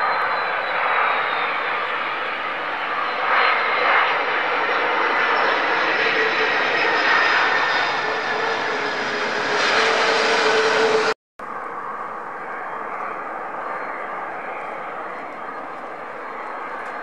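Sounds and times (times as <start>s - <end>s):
jet engines running with whining tones: 0.0s - 17.0s.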